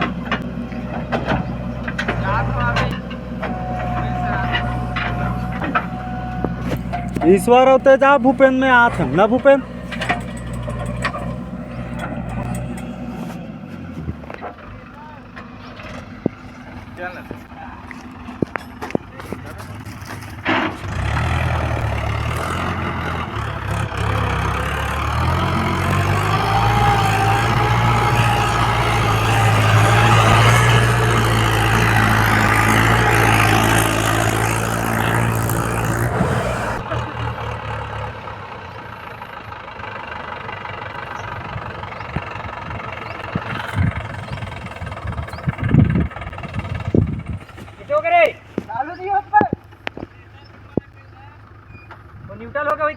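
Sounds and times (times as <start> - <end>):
diesel engine revving: 0.0 - 50.7.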